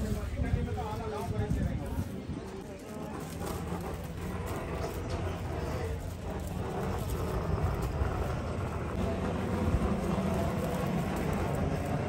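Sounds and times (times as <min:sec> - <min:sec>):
low continuous rumble: 0:00.0 - 0:12.0.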